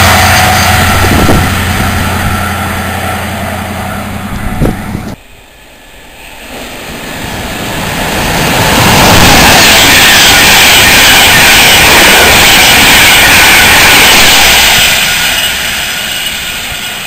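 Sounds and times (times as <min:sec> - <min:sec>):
train approaching at speed: 0:00.0 - 0:17.0
train passing at speed: 0:00.0 - 0:17.0.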